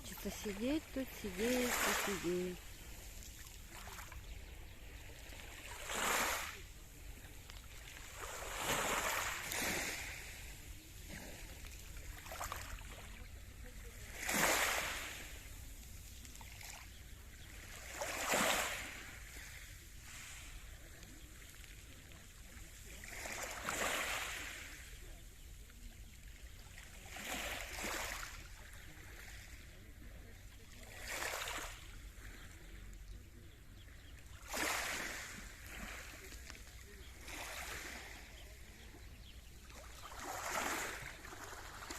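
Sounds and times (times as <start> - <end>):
small waves washing onto shore: 0.0 - 41.9.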